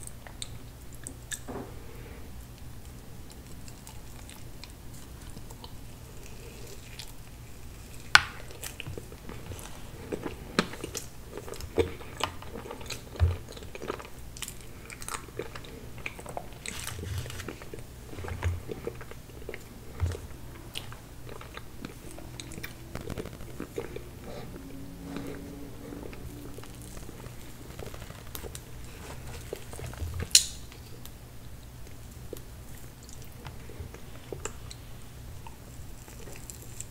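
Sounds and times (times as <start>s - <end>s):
biting and wet chewing: 2.5s - 36.9s.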